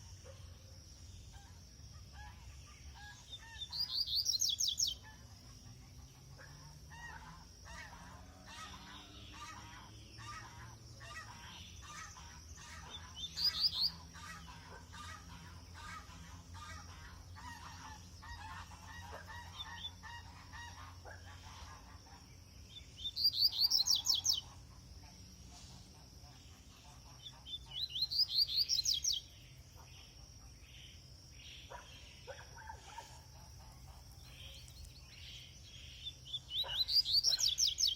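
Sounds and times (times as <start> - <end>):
birds chirping: 2.3 - 5.5, 7.1 - 25.1, 26.3 - 30.1, 30.7 - 37.9.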